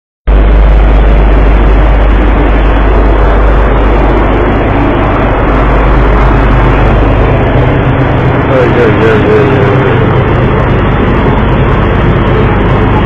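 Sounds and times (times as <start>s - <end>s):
ship engine droning: 0.3s - 13.0s
wind on microphone: 0.3s - 13.0s.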